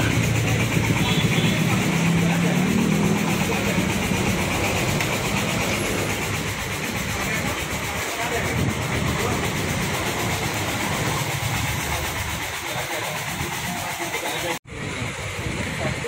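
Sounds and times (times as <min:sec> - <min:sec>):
diesel bus engine idling: 0:00.0 - 0:16.0.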